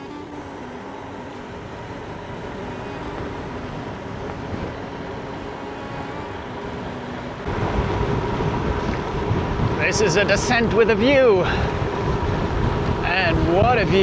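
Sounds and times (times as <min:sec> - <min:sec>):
traffic rumble: 0:00.0 - 0:14.0
wind: 0:00.0 - 0:14.0.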